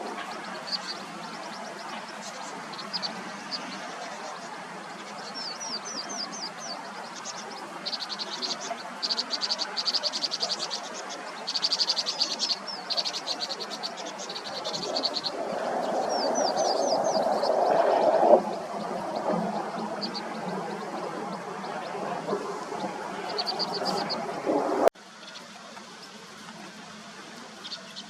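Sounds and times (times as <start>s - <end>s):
background hiss: 0.0s - 28.0s
birds chirping: 0.0s - 28.0s.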